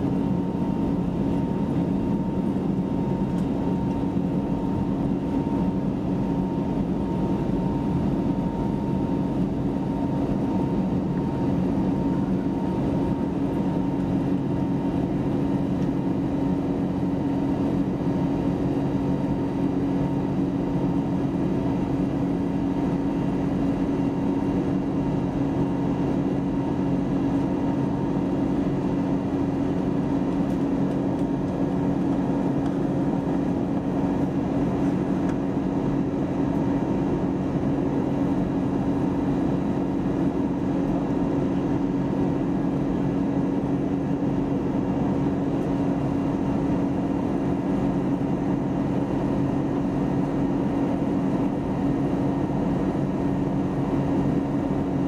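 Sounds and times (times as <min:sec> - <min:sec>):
airliner cabin engine drone: 0:00.0 - 0:55.0
constant low hum: 0:00.0 - 0:55.0.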